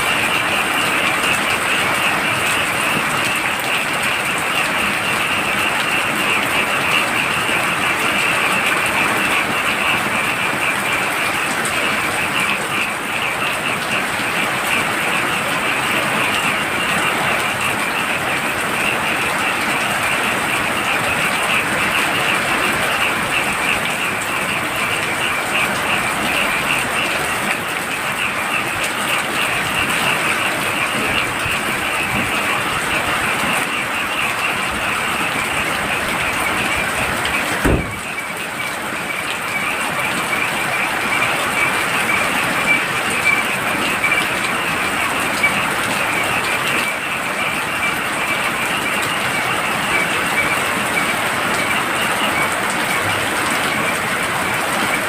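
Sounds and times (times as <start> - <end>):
frogs trilling: 0.0 - 55.0
heavy rain: 0.0 - 55.0.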